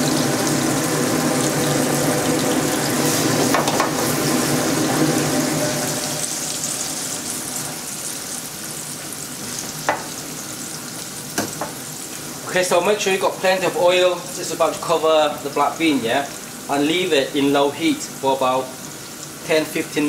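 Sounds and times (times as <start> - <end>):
beans sizzling in hot oil: 0.0 - 20.0.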